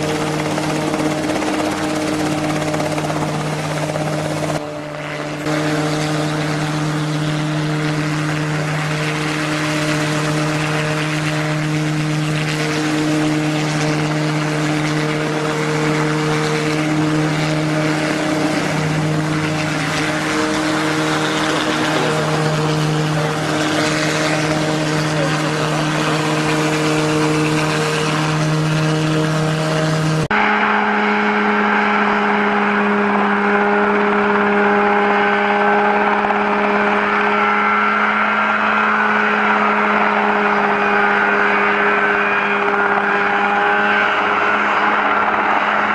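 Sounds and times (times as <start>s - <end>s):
helicopter piston engine running: 0.0s - 45.9s.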